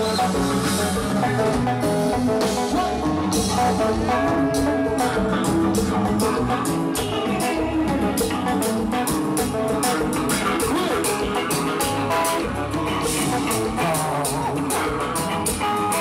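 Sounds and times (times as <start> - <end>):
band music: 0.0 - 16.0
drum kit beat: 0.0 - 16.0.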